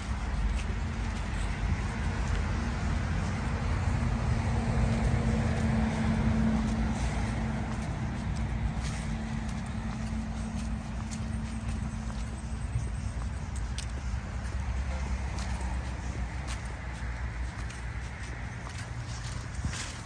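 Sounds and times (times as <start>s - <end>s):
steady low rumble: 0.0s - 20.0s
vehicle passing: 0.0s - 20.0s.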